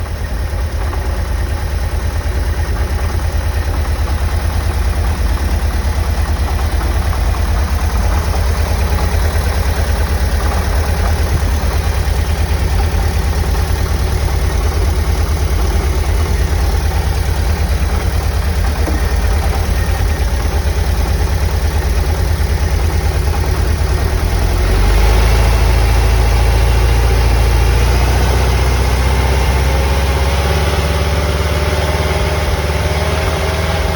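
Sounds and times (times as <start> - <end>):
engine running with rapid knock: 0.0 - 33.9.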